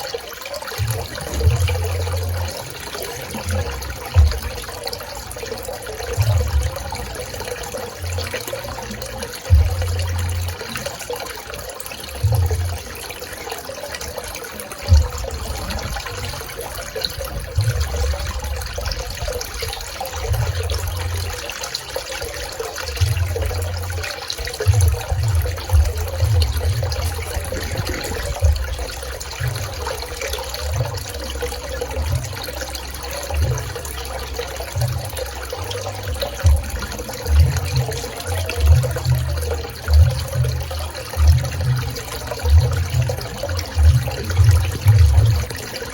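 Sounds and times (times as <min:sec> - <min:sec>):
pool water lapping and trickling: 0:00.0 - 0:45.9
low rumbles: 0:00.8 - 0:10.6, 0:14.8 - 0:45.9.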